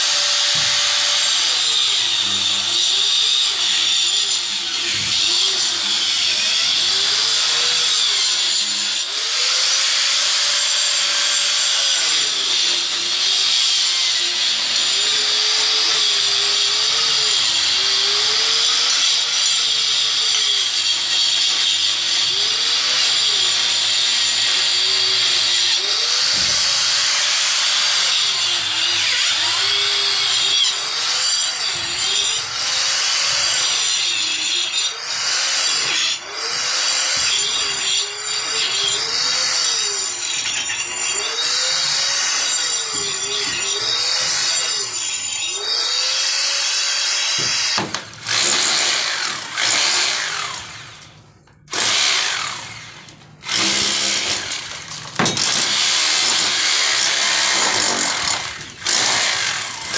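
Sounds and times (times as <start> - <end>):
electric cutter grinding brick: 0.0 - 59.9.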